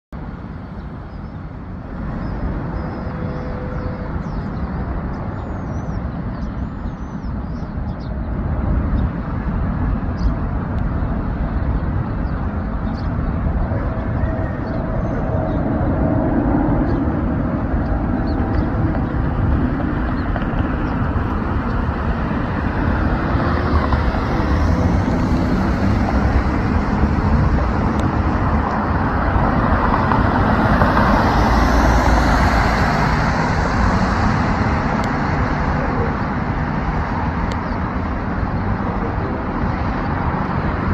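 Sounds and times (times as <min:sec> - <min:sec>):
road traffic: 0:00.1 - 0:40.9
jet engine rumble: 0:00.2 - 0:40.9.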